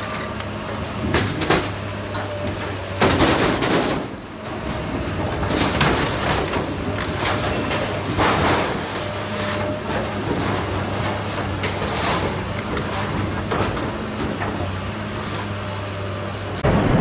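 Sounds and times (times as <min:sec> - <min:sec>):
debris crunching and cracking: 0:00.0 - 0:15.6
excavator diesel engine running: 0:00.0 - 0:17.0.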